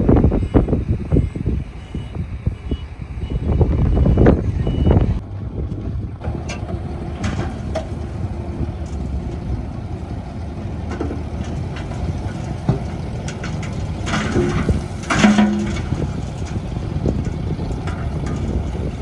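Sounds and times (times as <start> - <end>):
diesel construction machinery running: 0.0 - 19.0.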